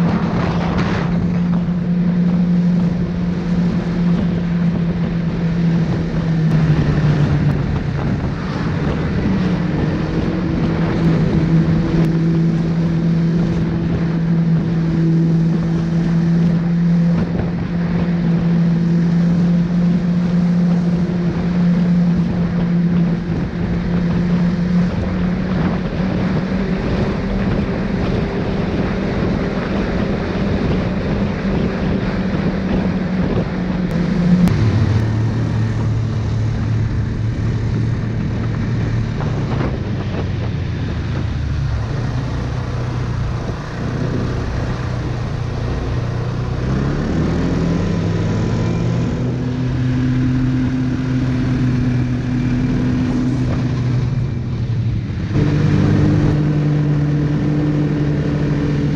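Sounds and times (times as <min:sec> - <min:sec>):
snowmobile engine running: 0:00.0 - 0:58.9.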